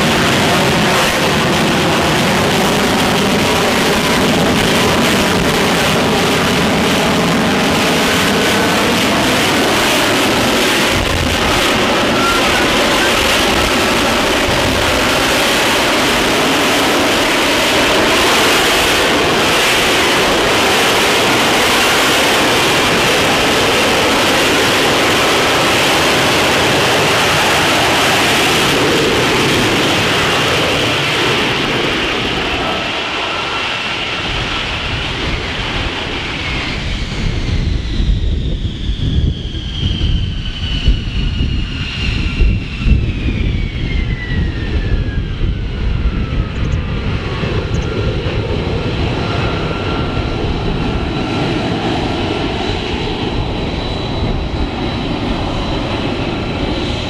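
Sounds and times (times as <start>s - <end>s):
high turbine whine: 0.0s - 57.0s
jet engine roar: 0.0s - 57.0s.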